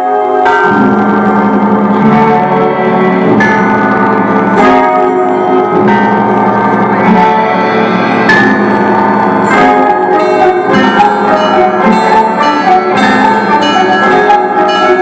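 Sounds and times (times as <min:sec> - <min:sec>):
bells ringing in fast pattern: 0:00.0 - 0:15.0.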